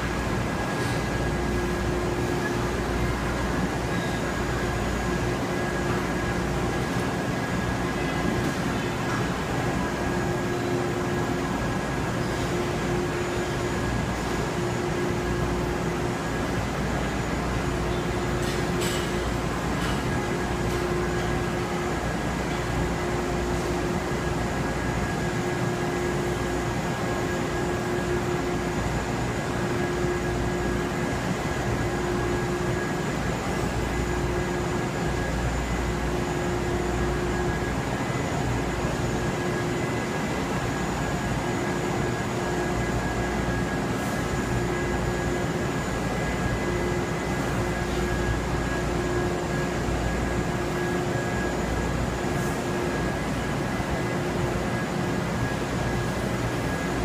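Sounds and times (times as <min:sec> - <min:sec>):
laundry machinery rumble: 0:00.0 - 0:57.0
mid-pitched machine hum: 0:00.0 - 0:57.0.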